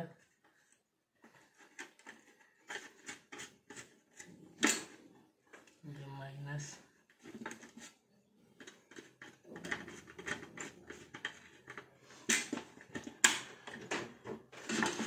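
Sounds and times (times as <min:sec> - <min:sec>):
wires and metal clicking and rattling: 0:00.0 - 0:05.8, 0:07.0 - 0:15.0.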